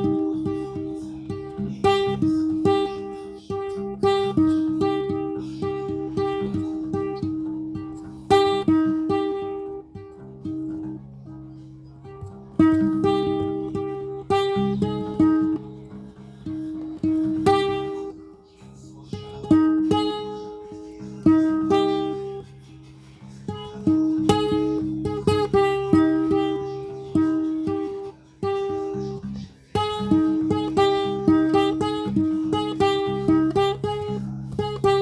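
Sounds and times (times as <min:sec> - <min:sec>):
slow acoustic guitar: 0:00.0 - 0:35.0.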